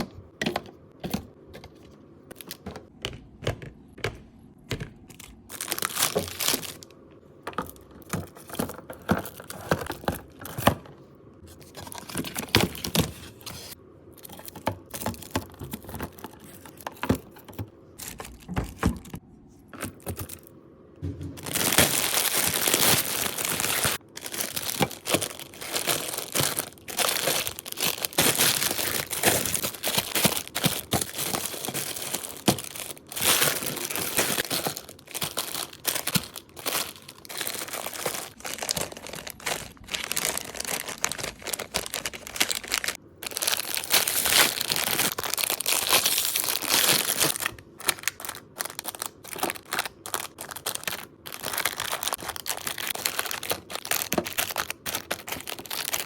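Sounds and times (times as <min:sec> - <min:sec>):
food packaging crinkling: 0:05.1 - 0:10.8, 0:11.6 - 0:19.2, 0:21.4 - 0:56.0.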